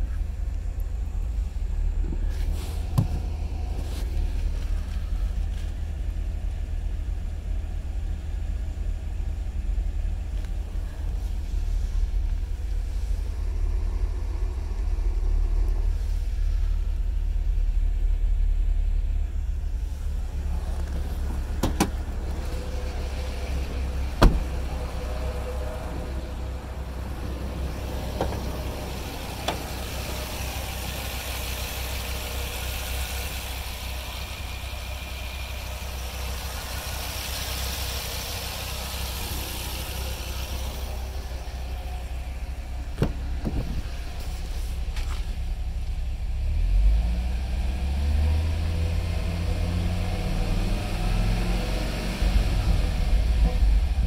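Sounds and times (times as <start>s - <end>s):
engine idling low rumble: 0.0s - 54.0s.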